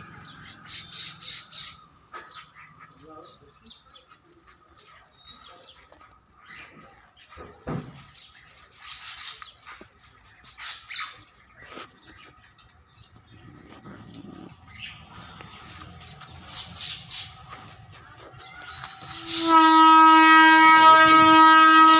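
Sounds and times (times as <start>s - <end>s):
birds squawking: 0.0s - 20.1s.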